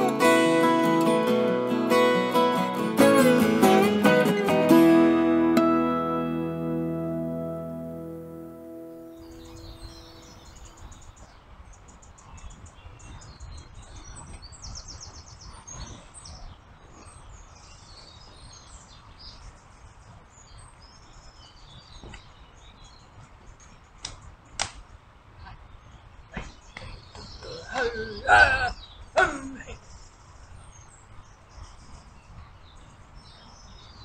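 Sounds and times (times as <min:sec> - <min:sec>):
songbirds chirping and singing: 0:00.0 - 0:24.4, 0:25.4 - 0:34.0.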